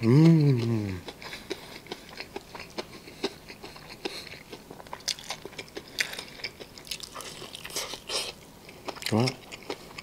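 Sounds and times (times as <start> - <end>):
crunchy chewing: 0.0 - 10.0.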